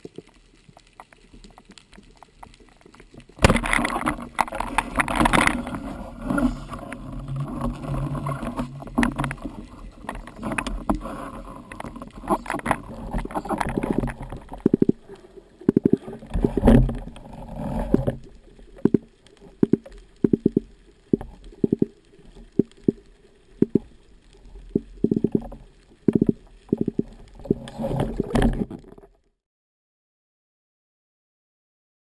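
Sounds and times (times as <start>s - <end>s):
bubbling and splashing: 0.0s - 29.1s
underwater knocks and clicks: 0.0s - 29.2s.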